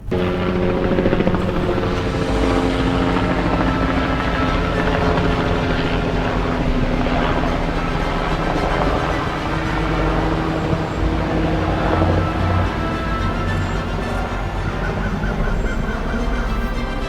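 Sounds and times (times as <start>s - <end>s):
continuous droning tone: 0.0s - 17.0s
helicopter rotor chopping: 0.0s - 17.0s.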